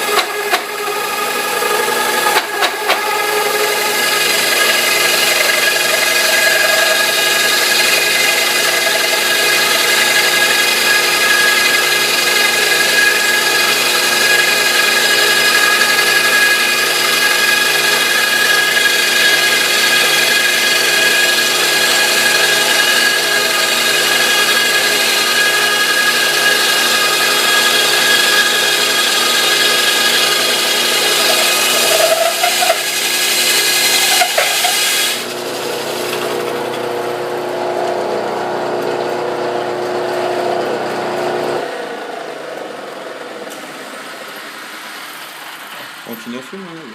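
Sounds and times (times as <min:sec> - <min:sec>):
drill press motor whining hum: 0:00.0 - 0:46.0.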